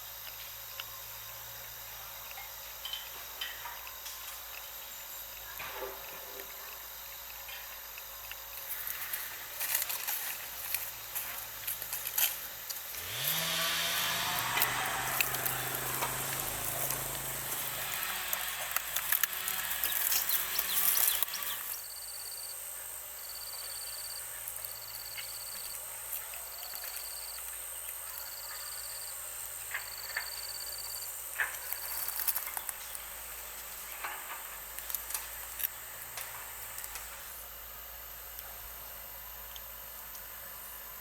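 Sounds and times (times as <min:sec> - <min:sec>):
high insect drone: 0:00.0 - 0:41.0.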